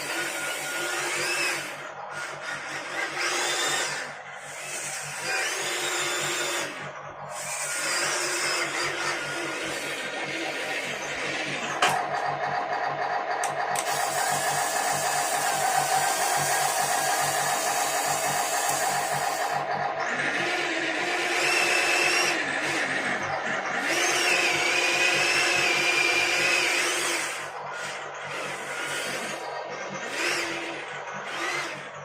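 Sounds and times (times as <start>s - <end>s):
electric motor whining: 0.0s - 12.2s, 13.4s - 32.0s.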